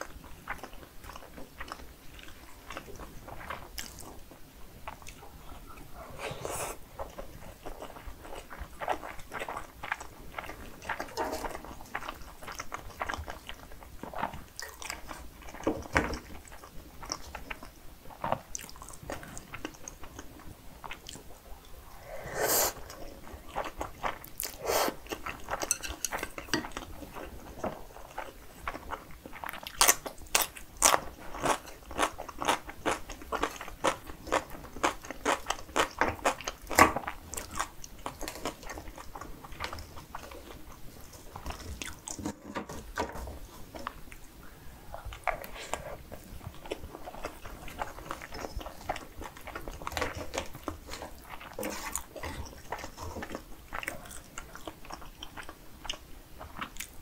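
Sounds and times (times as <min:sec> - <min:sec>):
chewing and biting food: 0:00.0 - 0:21.8, 0:22.8 - 0:42.4, 0:44.9 - 0:57.0.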